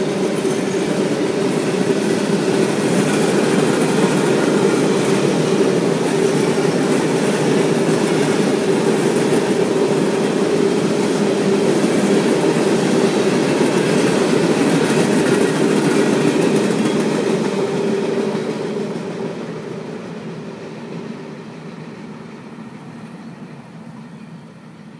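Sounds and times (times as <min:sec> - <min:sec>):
freight train rolling past: 0:00.0 - 0:24.9.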